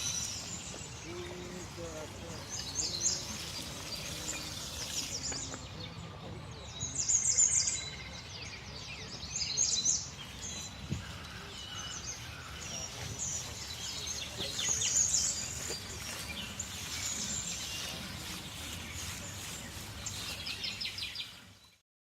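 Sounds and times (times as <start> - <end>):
small birds chirping: 0.0 - 21.8.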